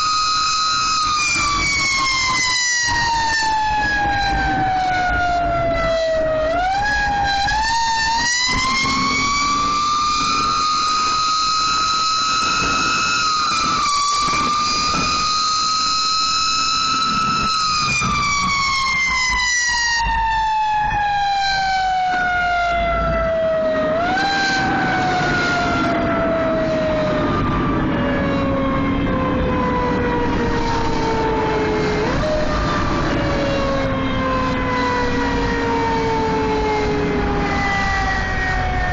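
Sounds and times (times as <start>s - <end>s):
fire engine siren wailing: 0.0s - 38.9s.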